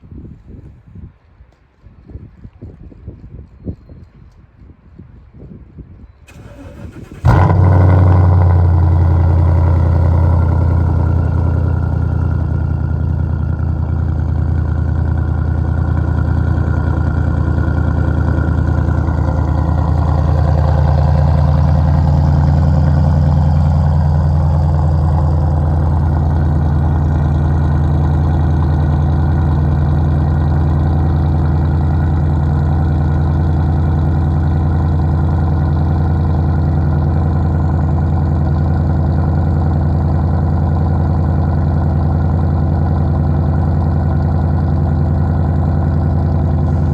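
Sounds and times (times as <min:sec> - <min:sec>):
car engine starting and idling: 0:06.3 - 0:46.9.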